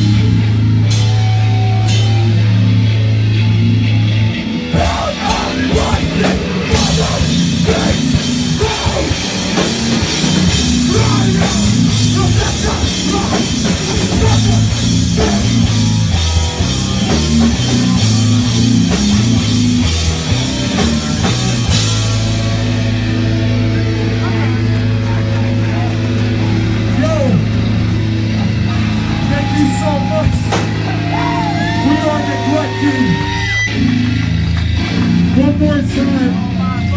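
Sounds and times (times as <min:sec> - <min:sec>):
bass guitar: 0:00.0 - 0:36.9
distorted guitars: 0:00.0 - 0:36.9
drum kit: 0:00.0 - 0:36.9.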